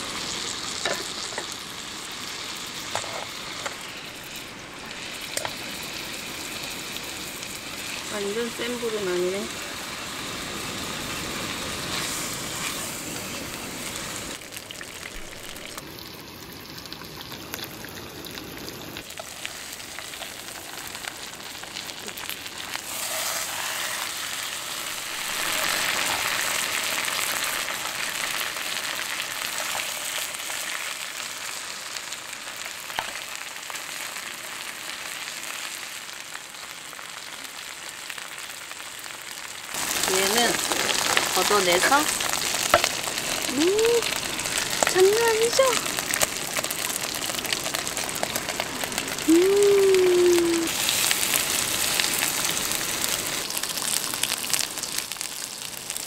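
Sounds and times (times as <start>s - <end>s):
steak sizzling in hot oil: 0.0s - 56.0s.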